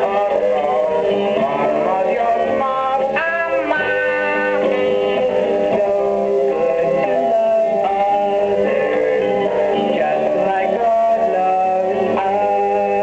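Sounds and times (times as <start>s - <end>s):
person singing: 0.0s - 13.0s
plucked guitar: 0.0s - 13.0s.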